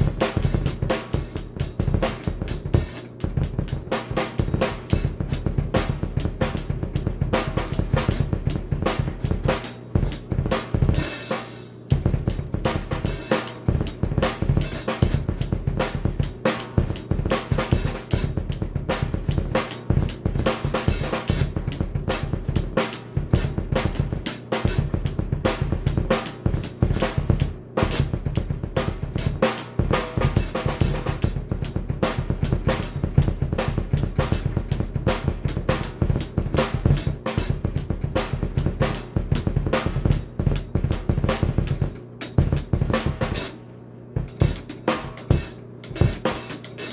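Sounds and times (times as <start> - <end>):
cymbals: 0.0 - 37.6, 38.2 - 46.9
rapid kick drum strokes: 0.0 - 46.9.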